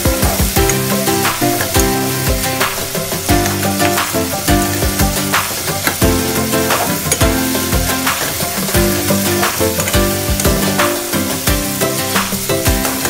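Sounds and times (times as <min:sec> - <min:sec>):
background music with steady beat: 0:00.0 - 0:13.0
tomatoes sizzling in hot oil: 0:00.0 - 0:13.0.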